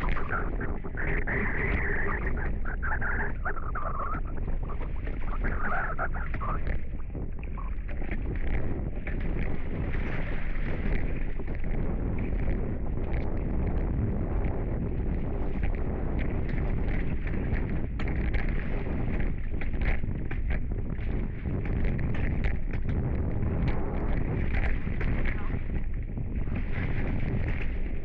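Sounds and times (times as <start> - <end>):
wind noise on microphone: 0.0 - 28.0.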